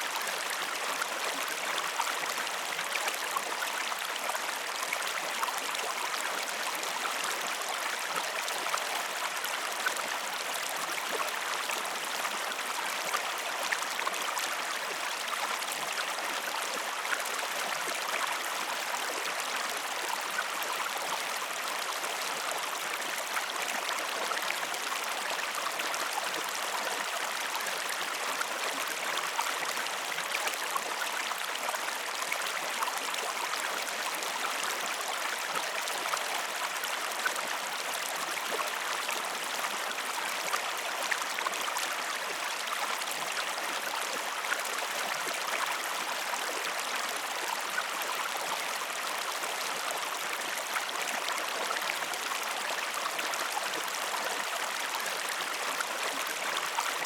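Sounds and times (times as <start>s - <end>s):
stream rushing and babbling: 0.0s - 57.0s.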